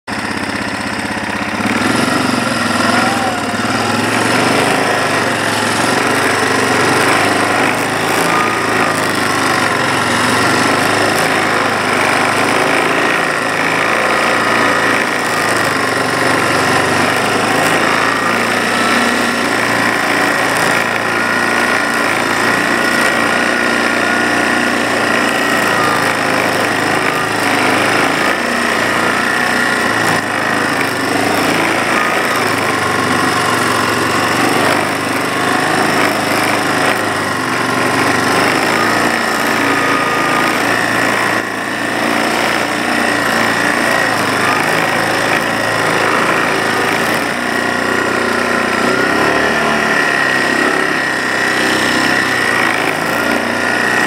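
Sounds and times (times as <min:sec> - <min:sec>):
quad engine running: 0:00.0 - 0:54.0.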